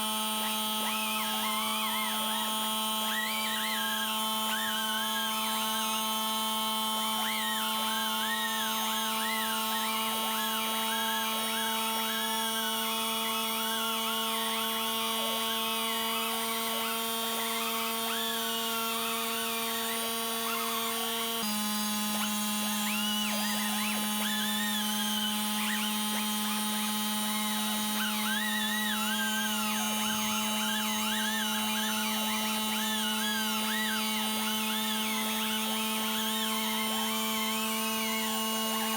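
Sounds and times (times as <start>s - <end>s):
air grinder wire brush whine: 0.0s - 38.9s.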